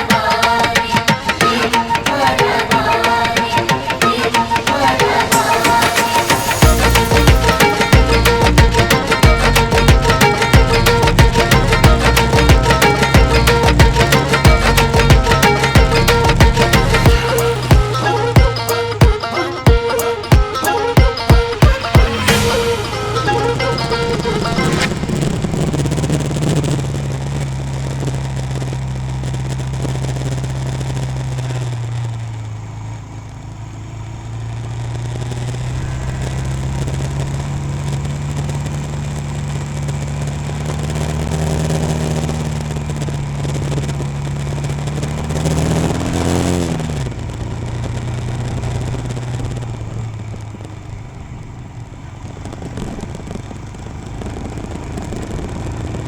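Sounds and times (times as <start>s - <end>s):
motorcycle engine running: 4.5s - 56.0s.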